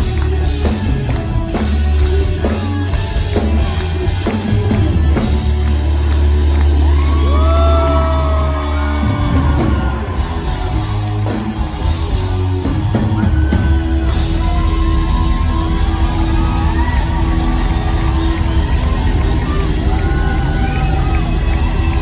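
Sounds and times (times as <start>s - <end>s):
live rock band: 0.0s - 22.0s.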